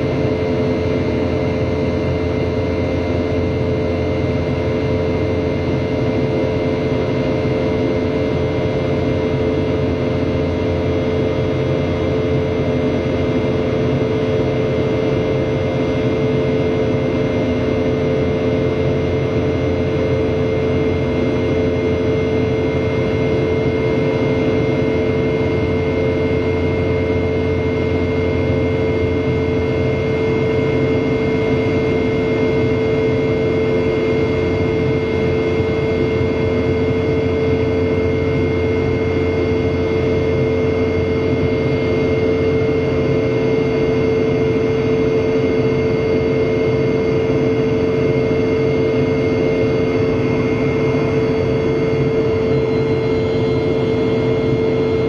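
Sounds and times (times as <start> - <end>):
high steady engine tones: 0.0 - 55.0
jet engine drone in cabin: 0.0 - 55.0.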